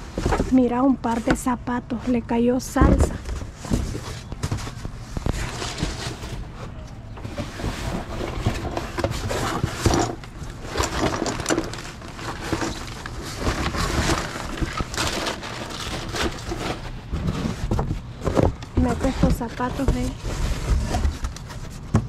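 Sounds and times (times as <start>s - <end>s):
rummaging through boxes and bags: 0.0s - 22.0s.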